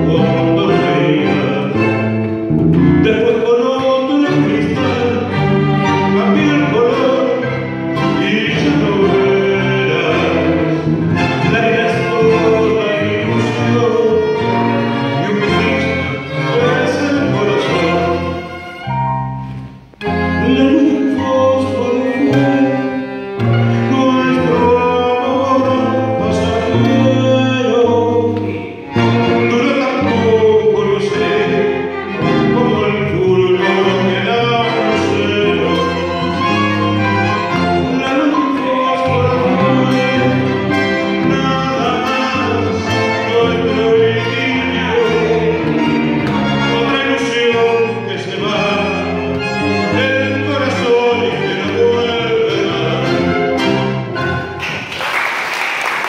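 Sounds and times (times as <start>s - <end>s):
man singing: 0.0s - 18.8s, 20.0s - 53.9s
tango ensemble playing: 0.0s - 56.0s.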